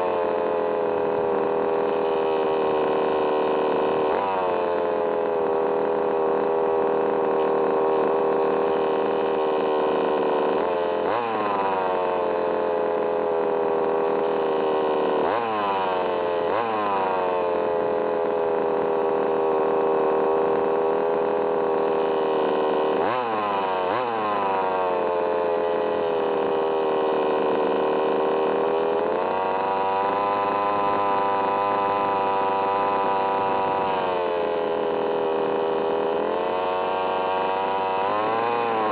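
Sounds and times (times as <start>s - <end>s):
small engine high-pitched drone: 0.0s - 38.9s.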